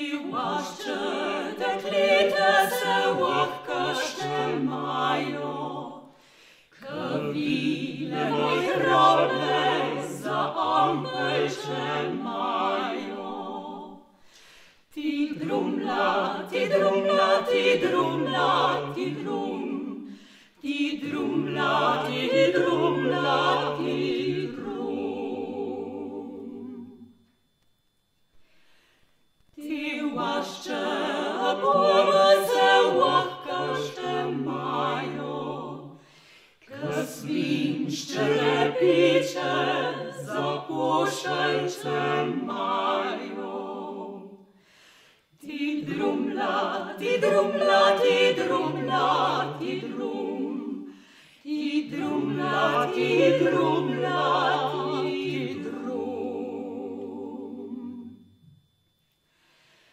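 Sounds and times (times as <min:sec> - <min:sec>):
vocal quartet singing in harmony: 0:00.0 - 0:59.9.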